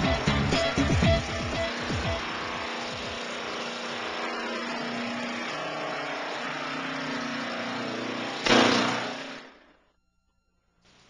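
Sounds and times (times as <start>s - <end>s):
pneumatic air hammer buzzing: 0.0s - 9.5s.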